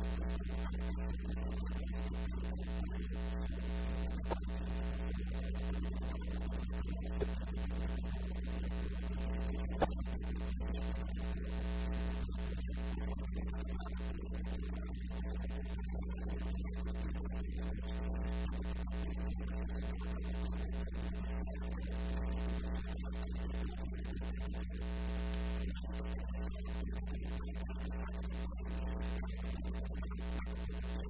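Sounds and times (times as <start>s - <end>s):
electrical mains hum: 0.0s - 31.0s.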